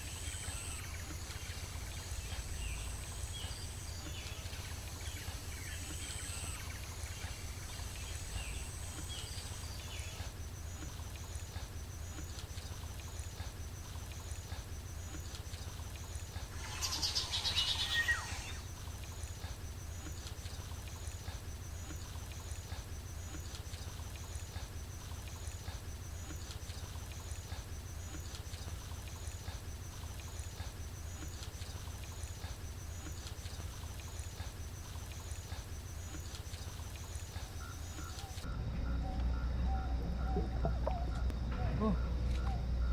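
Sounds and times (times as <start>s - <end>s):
birds calling: 0.0s - 42.9s.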